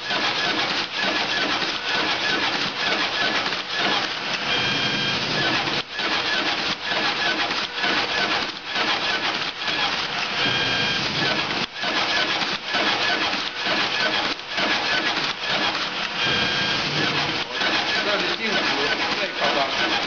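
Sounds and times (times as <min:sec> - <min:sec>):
card cutter mechanical clatter: 0:00.0 - 0:20.0.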